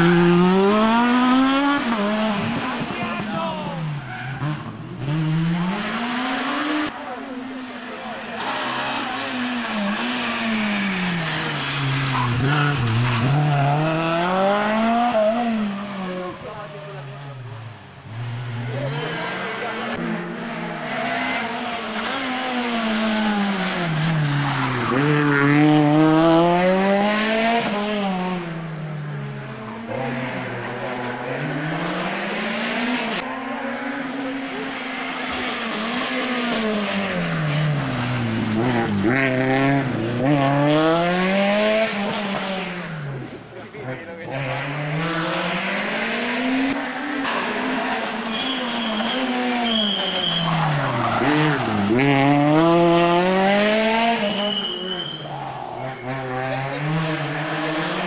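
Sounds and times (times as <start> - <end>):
rally car engine: 0.0 - 58.0.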